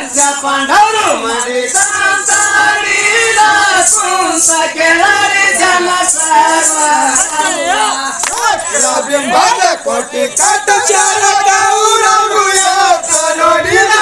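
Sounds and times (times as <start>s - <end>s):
high jingling rattle: 0.0s - 14.0s
men singing together: 0.0s - 14.0s.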